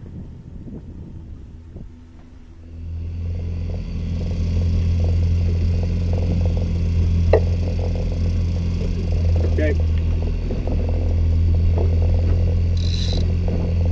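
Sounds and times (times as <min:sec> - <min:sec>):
outboard motor droning: 0:00.0 - 0:13.9.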